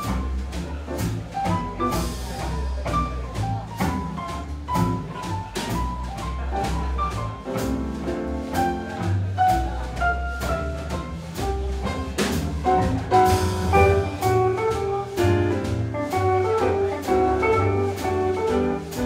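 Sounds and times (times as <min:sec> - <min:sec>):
double bass: 0:00.0 - 0:19.0
drum kit swing beat: 0:00.0 - 0:19.0
piano: 0:00.0 - 0:19.0.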